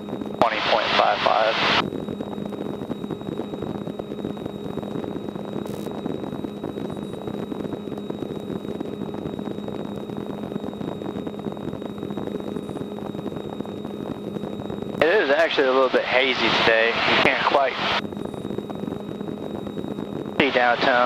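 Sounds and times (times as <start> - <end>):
air noise: 0.0 - 21.0
light aircraft engine droning: 0.0 - 21.0
thin high whine: 0.0 - 21.0.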